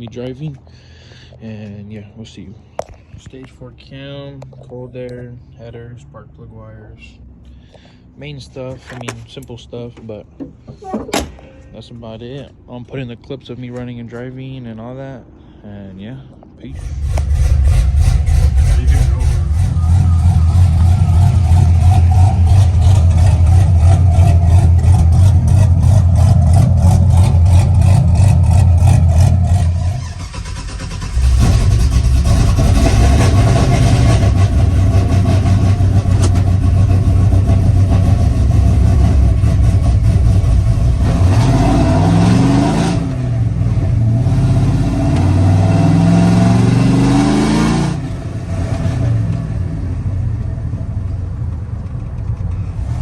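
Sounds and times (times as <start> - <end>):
truck engine deep rumble: 0.0 - 53.0.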